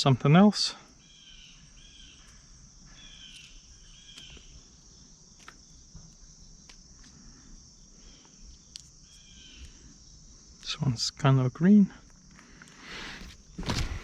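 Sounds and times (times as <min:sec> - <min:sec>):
crickets trilling: 0:00.0 - 0:14.0
insect chirping call: 0:00.0 - 0:14.0.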